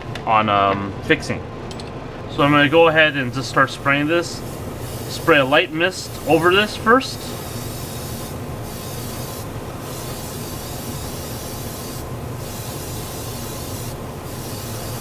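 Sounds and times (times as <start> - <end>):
airbrush spraying hiss: 2.4 - 15.0.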